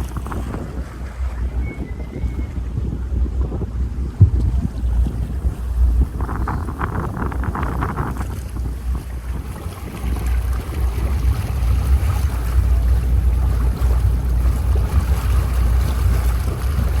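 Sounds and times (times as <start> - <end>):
boat engine low rumble: 0.0 - 17.0
water rushing past: 0.0 - 17.0
wind buffeting microphone: 0.0 - 17.0.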